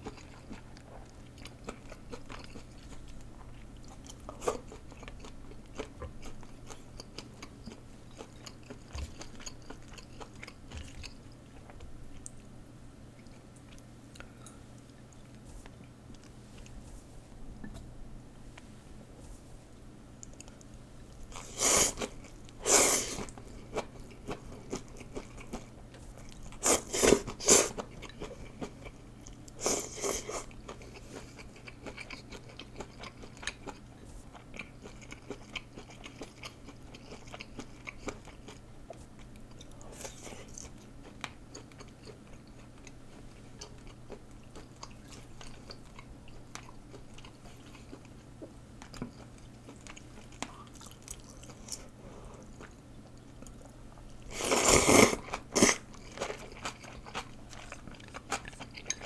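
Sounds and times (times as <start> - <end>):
chewing noodles and lettuce: 0.0 - 12.5, 20.2 - 59.0.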